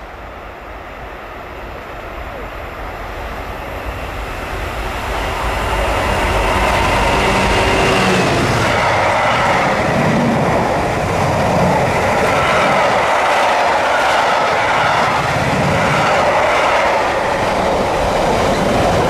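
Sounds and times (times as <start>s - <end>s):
train wheels rolling on rails: 0.0s - 19.0s
locomotive engine droning: 1.6s - 19.0s.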